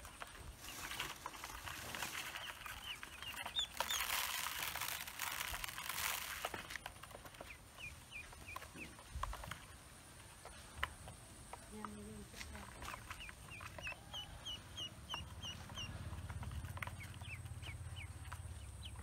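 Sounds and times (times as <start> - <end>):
ducklings peeping: 0.0 - 19.0
beaks pecking plastic: 0.2 - 19.0.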